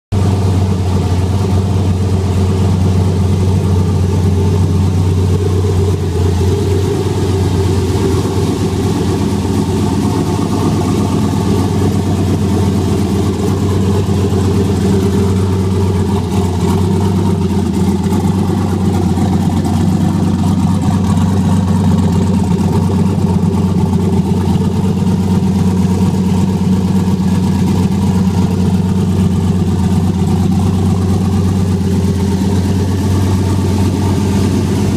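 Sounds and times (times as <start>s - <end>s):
engine running at low revs: 0.1s - 34.9s.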